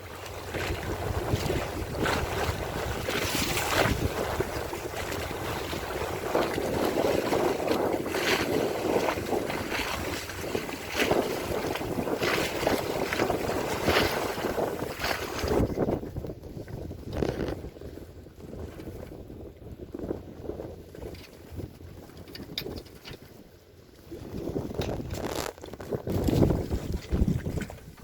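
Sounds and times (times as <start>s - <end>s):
water rushing along hull: 0.0s - 28.0s
wind buffeting microphone: 0.0s - 28.0s.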